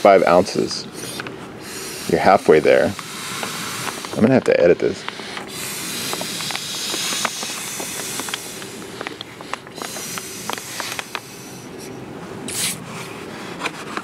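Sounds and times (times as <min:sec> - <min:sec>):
sharp hiss: 0:01.0 - 0:12.8.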